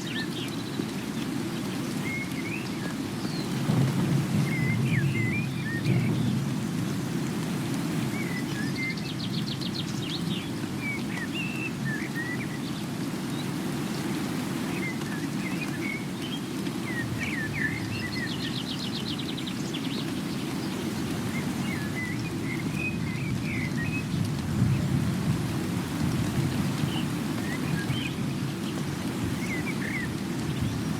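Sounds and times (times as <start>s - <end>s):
songbirds chirping: 0.0s - 30.9s
steady rain: 0.0s - 30.9s.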